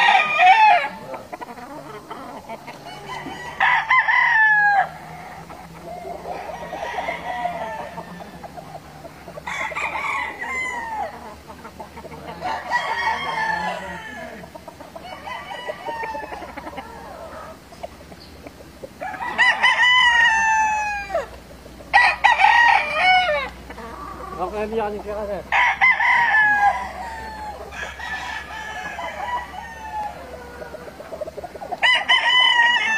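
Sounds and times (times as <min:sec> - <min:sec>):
roosters crowing: 0:00.0 - 0:32.9.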